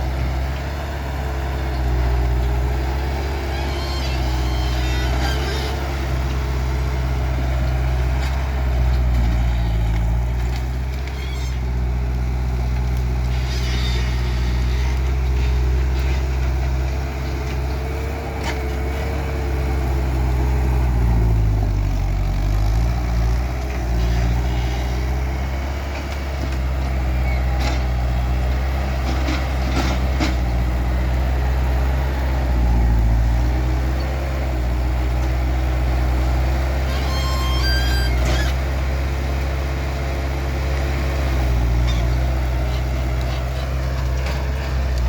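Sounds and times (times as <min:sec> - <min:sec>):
diesel engine running hard: 0:00.0 - 0:45.0.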